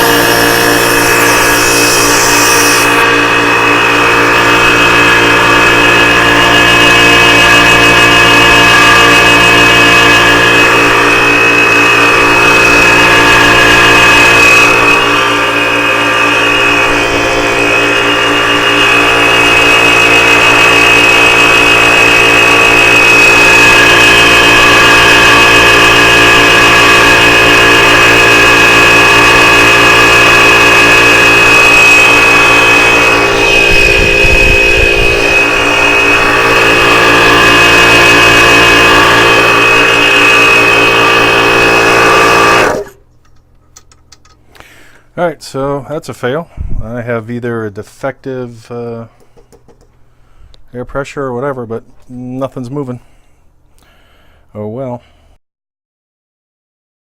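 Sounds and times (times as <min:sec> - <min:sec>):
air compressor motor hum and whine: 0:00.0 - 0:47.0.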